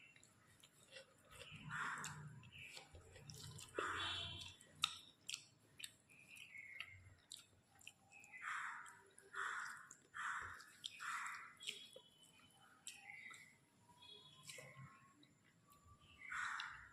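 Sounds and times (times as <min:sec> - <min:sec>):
person chewing food: 0:00.0 - 0:13.6, 0:14.3 - 0:16.9.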